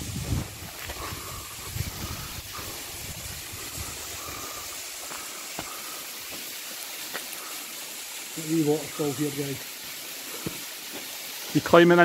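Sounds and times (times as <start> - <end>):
waterfall splashing onto stone: 0.0 - 12.0.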